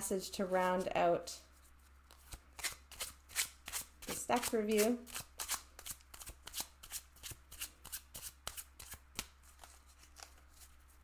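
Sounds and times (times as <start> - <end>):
cards being shuffled: 1.6 - 11.0.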